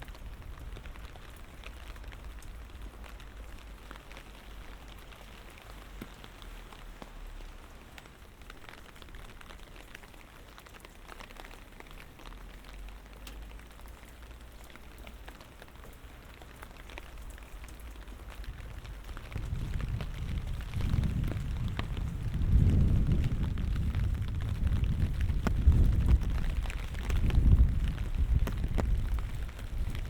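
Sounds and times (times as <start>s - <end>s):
raindrops ticking: 0.0s - 30.0s.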